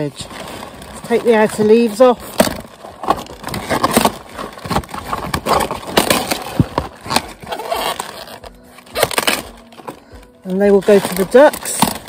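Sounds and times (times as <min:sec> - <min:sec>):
cabbage leaves snapping: 0:00.0 - 0:12.0
leaves rustling: 0:00.0 - 0:12.0.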